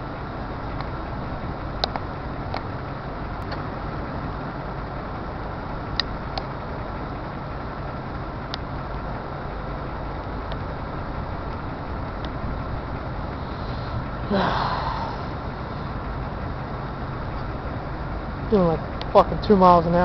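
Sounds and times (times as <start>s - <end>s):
diesel locomotives rumbling: 0.0s - 20.0s.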